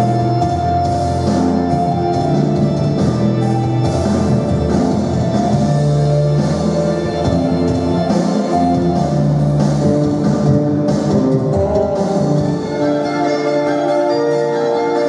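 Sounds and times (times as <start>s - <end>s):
instrumental music with drums and guitar: 0.0s - 15.0s.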